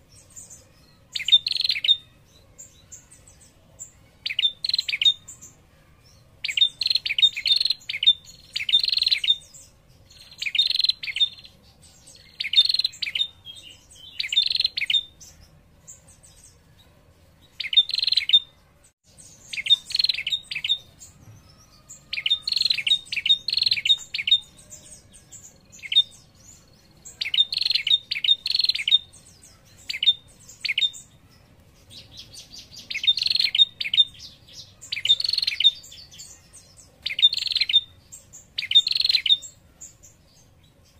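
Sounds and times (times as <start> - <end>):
bird chattering trill: 0.2 - 2.2, 4.2 - 5.6, 6.4 - 16.1, 17.5 - 18.6, 19.3 - 40.0.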